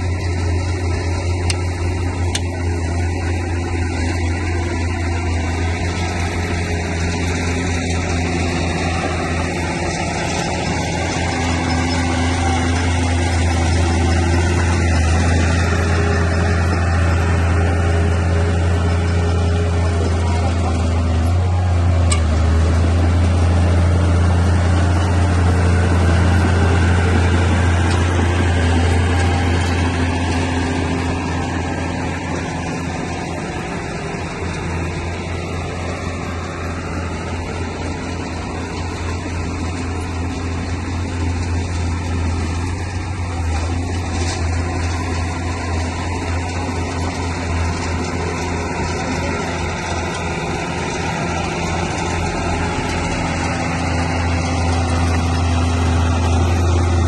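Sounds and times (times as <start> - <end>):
bulldozer diesel engine drone: 0.0 - 57.0.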